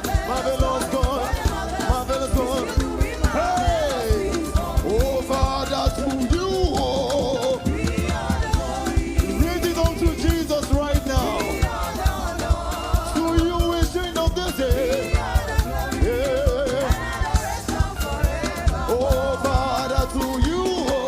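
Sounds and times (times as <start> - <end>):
band playing: 0.0 - 21.0
gospel singing: 0.0 - 21.0
steady drum beat: 0.0 - 21.0.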